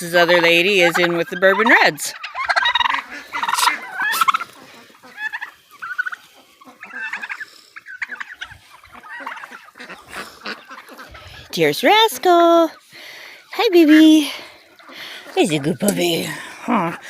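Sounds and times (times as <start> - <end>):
poultry calls: 0.0 - 17.0
turkeys gobbling: 0.0 - 17.0.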